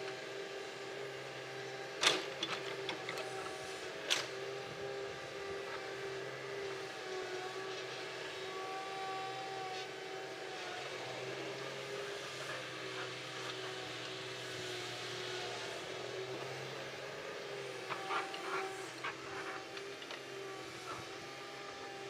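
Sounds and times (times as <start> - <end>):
excavator diesel engine running: 0.1 - 22.0.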